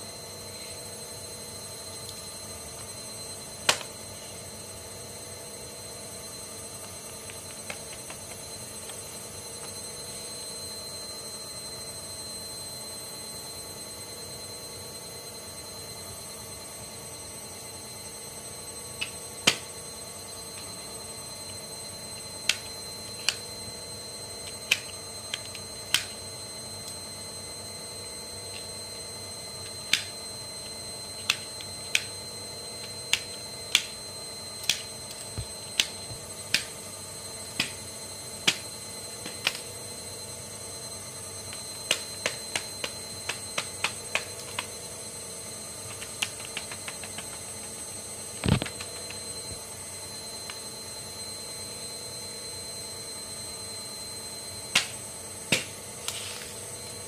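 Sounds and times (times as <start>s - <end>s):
faint high whine: 0.0s - 57.0s.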